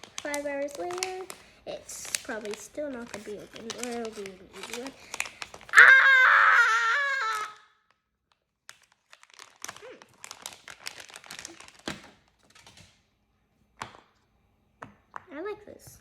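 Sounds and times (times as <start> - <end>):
plastic bag crinkling and tearing: 0.0 - 12.9.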